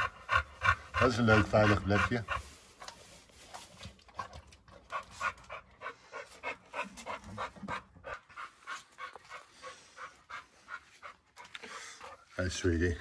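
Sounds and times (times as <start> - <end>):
dog panting: 0.0 - 12.6.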